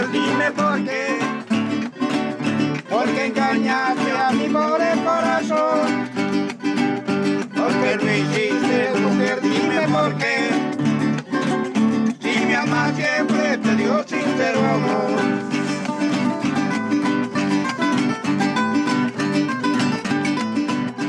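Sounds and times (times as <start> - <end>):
picked string melody: 0.0 - 21.0
strummed acoustic guitars: 0.0 - 21.0.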